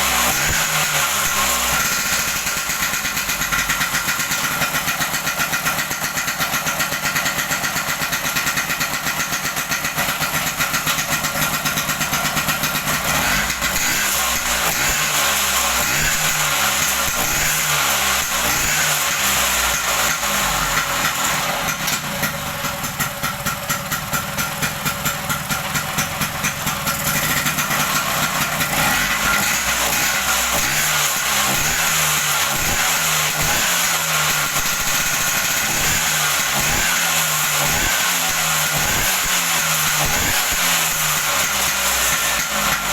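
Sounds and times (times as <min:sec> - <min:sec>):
scooter engine idling: 0:00.0 - 0:42.9.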